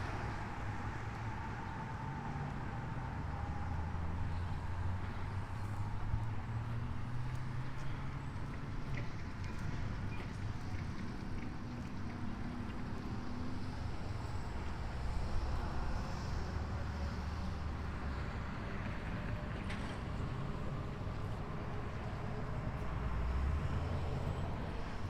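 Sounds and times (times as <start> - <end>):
diesel engines rumbling: 0.0 - 25.0.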